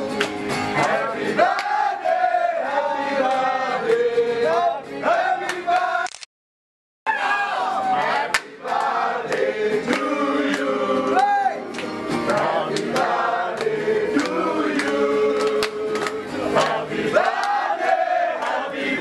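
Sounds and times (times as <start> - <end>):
song with singing voices: 0.0 - 6.0, 7.8 - 19.0.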